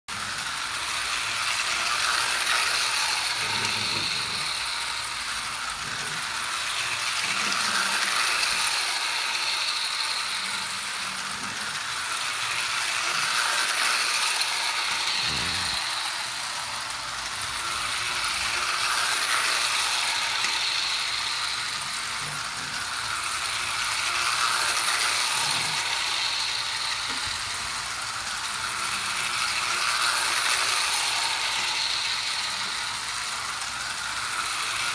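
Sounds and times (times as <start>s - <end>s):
toy train rattling clatter: 0.1s - 34.9s.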